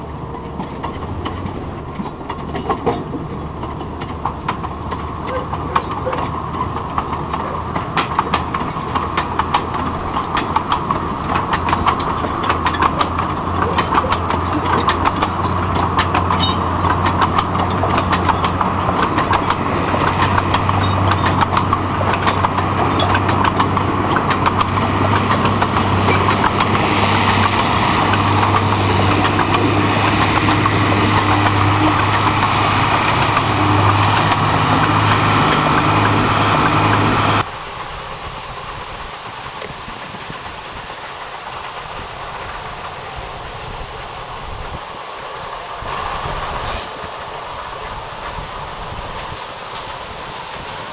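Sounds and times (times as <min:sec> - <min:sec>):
train engine hum: 0:00.0 - 0:50.9
wagons rattling on track: 0:00.0 - 0:50.9.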